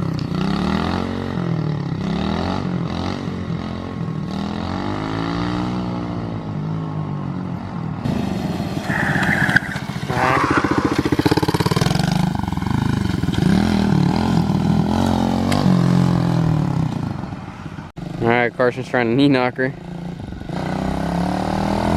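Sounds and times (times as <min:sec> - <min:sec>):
motorbike engine revving: 0:00.0 - 0:06.3, 0:08.1 - 0:18.4, 0:19.7 - 0:21.9.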